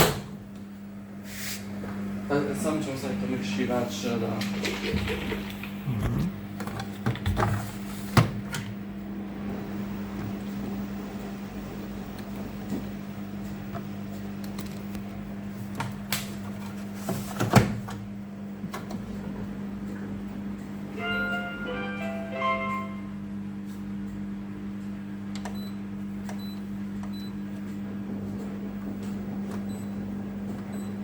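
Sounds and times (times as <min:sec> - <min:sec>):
washing machine hum: 0:00.0 - 0:31.0.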